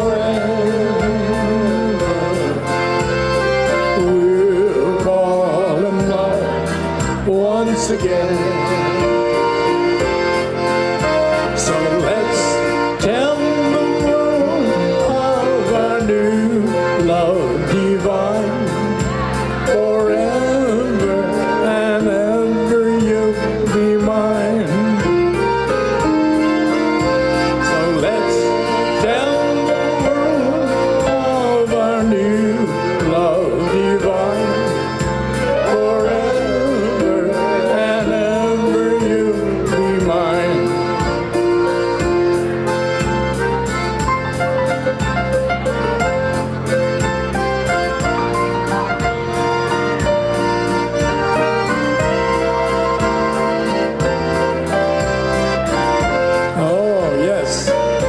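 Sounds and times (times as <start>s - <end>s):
accordion melody: 0.0s - 58.0s
keyboard accompaniment: 0.0s - 58.0s
oom-pah bass beat: 0.0s - 58.0s.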